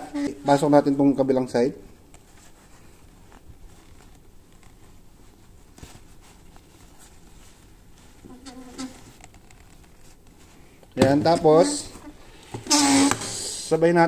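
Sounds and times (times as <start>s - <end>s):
fabric rustling: 1.9s - 13.4s.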